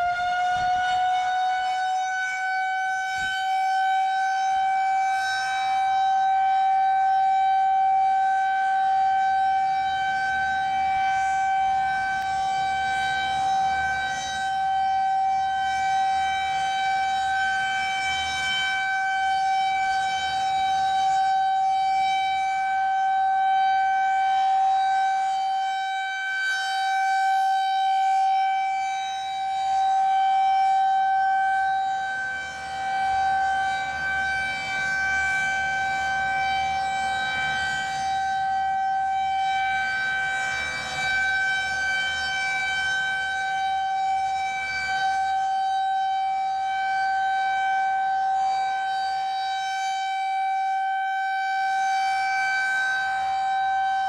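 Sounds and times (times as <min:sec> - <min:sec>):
outdoor warning siren steady tone: 0:00.0 - 0:54.0.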